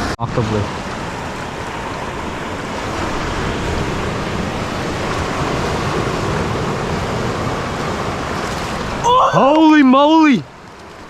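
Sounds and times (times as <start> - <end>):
wind on microphone: 0.0 - 9.6
sea surf washing on shore: 0.0 - 11.0.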